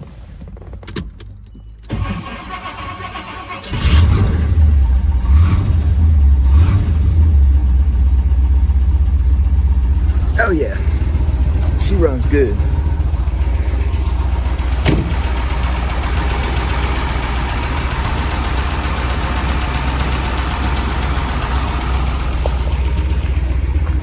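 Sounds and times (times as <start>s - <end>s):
car engine idling: 1.9s - 24.0s.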